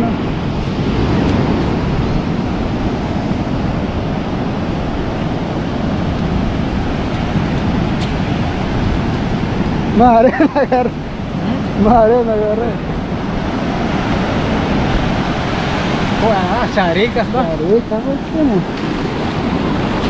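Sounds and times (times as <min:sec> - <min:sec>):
ocean surf washing on beach: 0:00.0 - 0:20.0
wind on microphone: 0:00.0 - 0:20.0.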